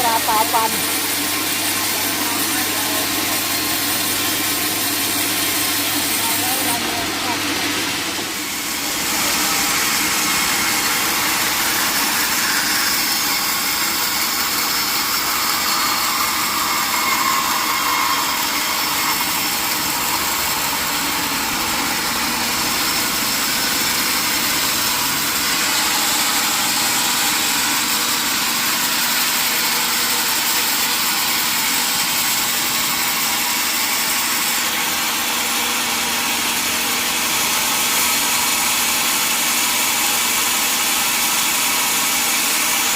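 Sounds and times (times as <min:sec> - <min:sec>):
sawmill machinery hissing: 0:00.0 - 0:42.9.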